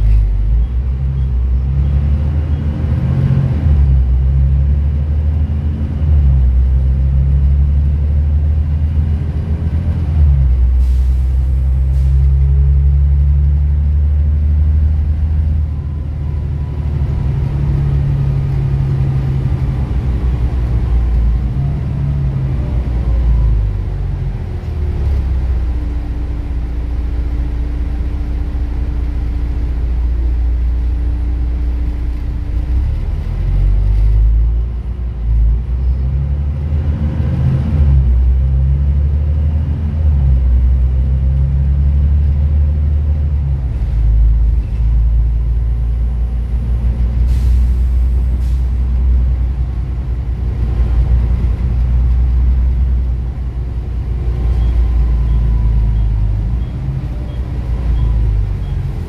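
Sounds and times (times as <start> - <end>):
bus diesel engine rumble: 0.0 - 59.0.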